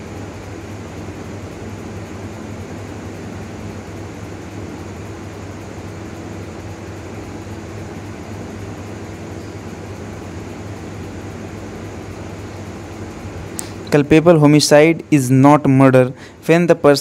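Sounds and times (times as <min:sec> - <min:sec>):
steady hiss: 0:00.1 - 0:17.0.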